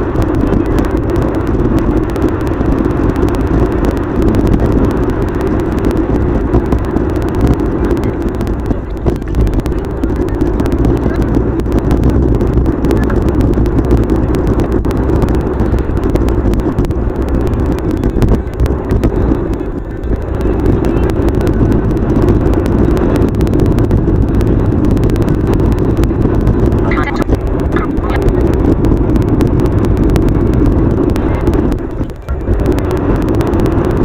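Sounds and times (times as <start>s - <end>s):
dense sped-up rumble with clicks: 0.0s - 34.0s.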